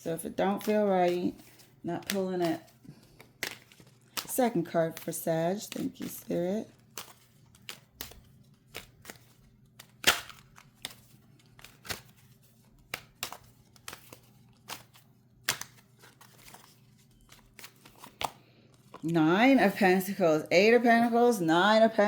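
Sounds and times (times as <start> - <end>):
cards shuffled and snapped: 0.5 - 6.2, 6.8 - 19.0.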